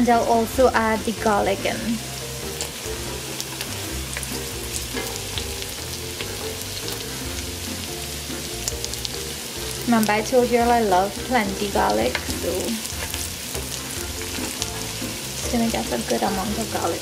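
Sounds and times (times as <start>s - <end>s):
soft background music: 0.0s - 17.0s
vegetables sizzling in butter: 0.0s - 17.0s.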